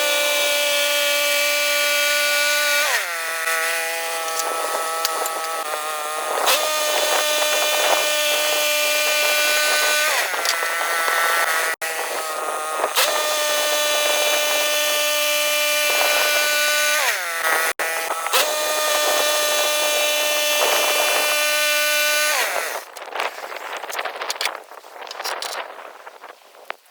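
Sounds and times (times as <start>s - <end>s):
bandsaw mill cutting log: 0.0s - 24.3s.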